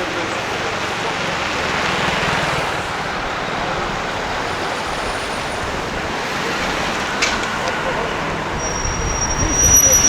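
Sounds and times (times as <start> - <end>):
engine rumbling close by: 0.0 - 10.0
street traffic road noise: 0.0 - 10.0.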